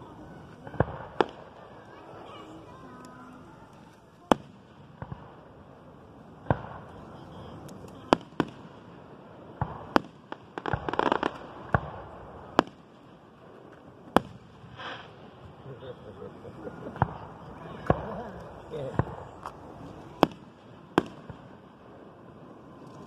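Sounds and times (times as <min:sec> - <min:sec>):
fireworks booming: 0:00.0 - 0:23.0
fireworks popping: 0:00.0 - 0:23.0.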